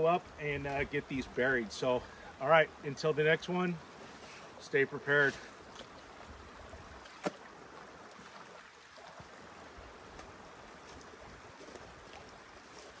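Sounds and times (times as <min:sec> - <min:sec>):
creek flowing: 0:00.0 - 0:13.0.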